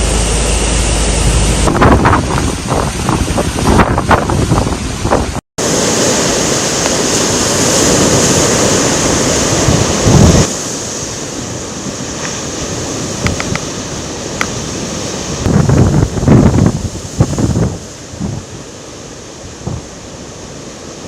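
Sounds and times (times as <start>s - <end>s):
wind buffeting microphone: 0.0s - 10.6s, 11.6s - 18.6s
strong wind and rain: 0.0s - 21.0s.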